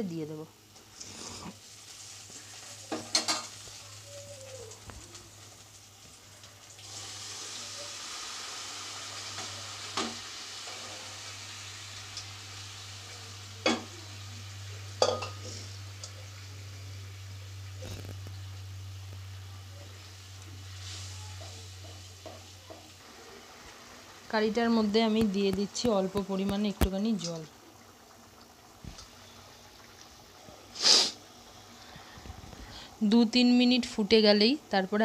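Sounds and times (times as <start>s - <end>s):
beans sizzling in a pan: 0.0s - 35.0s.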